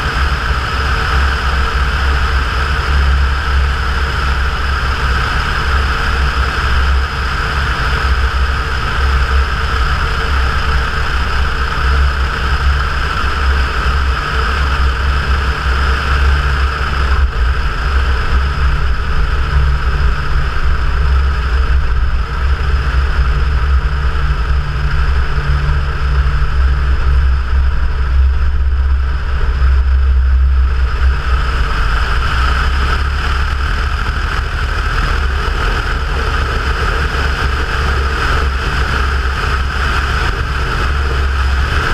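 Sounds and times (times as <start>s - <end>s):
airplane engine and propeller droning: 0.0s - 41.9s.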